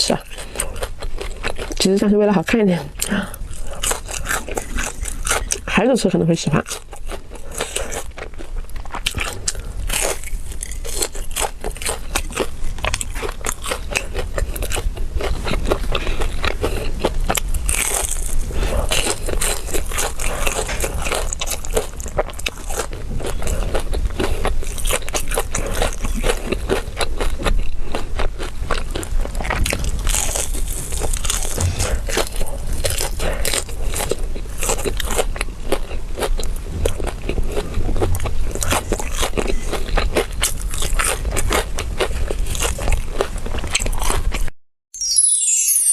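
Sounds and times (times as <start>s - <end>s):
crunchy chewing: 0.0s - 44.5s.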